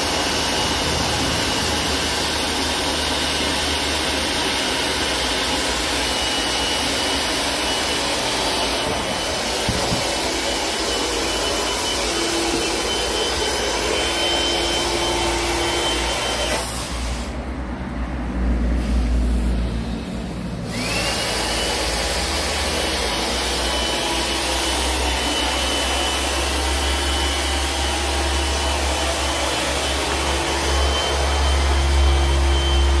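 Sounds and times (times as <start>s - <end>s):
air inflator whining: 0.0s - 17.5s, 20.6s - 33.0s.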